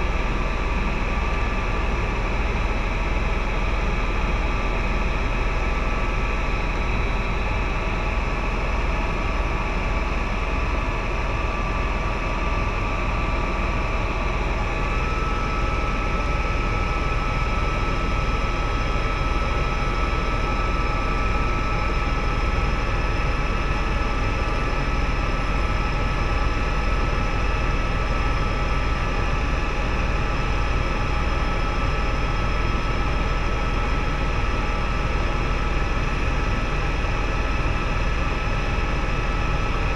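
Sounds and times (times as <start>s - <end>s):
helicopter rotor and engine drone: 0.0s - 39.9s
high steady whine: 0.0s - 39.9s.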